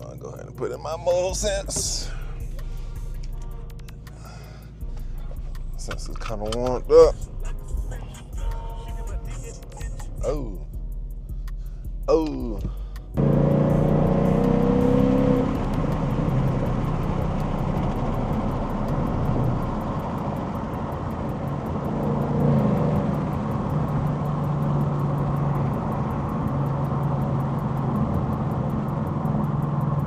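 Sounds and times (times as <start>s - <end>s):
car engine driving: 0.0s - 30.0s
road noise: 0.0s - 30.0s.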